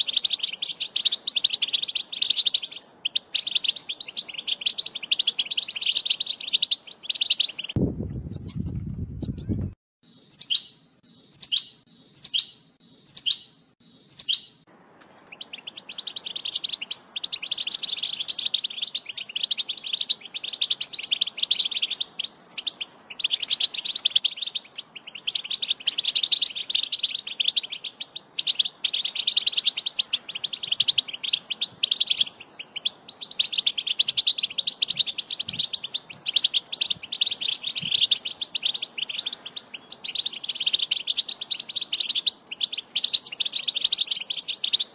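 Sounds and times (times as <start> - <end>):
goldfinch twittering song: 0.0 - 44.9.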